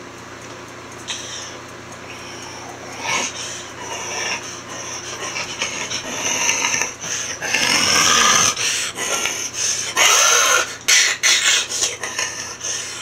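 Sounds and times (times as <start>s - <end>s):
man growling animal noises: 1.1s - 13.0s.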